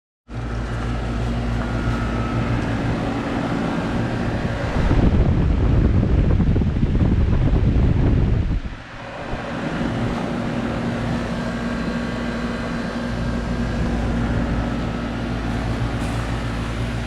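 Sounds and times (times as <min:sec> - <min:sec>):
air conditioner unit humming: 0:00.3 - 0:17.0
condenser fan rushing: 0:00.3 - 0:17.0
wind buffeting microphone: 0:00.4 - 0:17.0.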